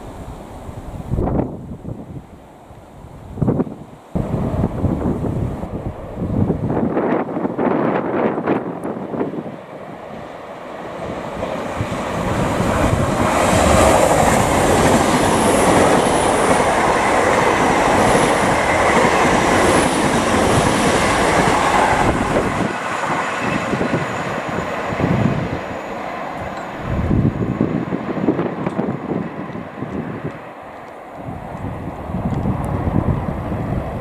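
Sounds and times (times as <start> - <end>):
train wheels rumbling on rails: 3.5 - 34.0.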